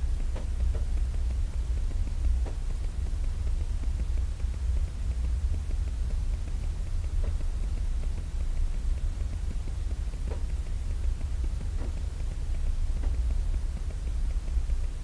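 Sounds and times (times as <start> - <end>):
faint clicks: 0.0 - 15.0.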